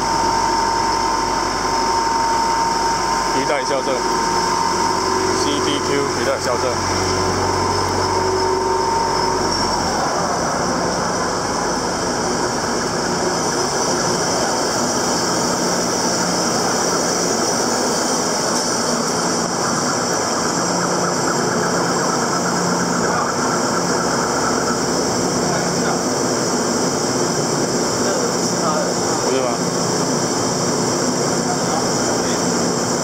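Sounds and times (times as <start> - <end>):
industrial machinery din: 0.0 - 33.0
low machine hum: 0.0 - 33.0.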